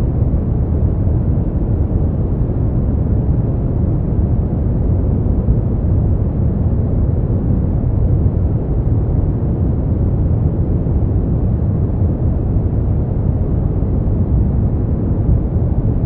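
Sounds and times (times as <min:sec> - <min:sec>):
deep rushing brown noise: 0:00.0 - 0:16.0.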